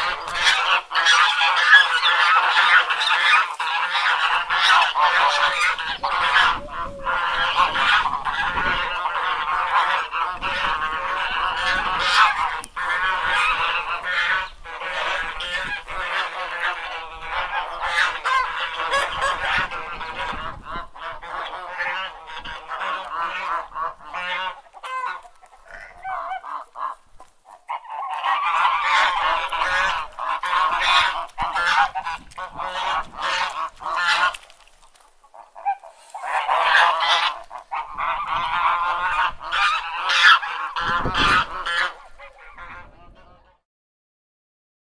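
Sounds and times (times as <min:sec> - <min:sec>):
geese honking: 0:00.0 - 0:43.6.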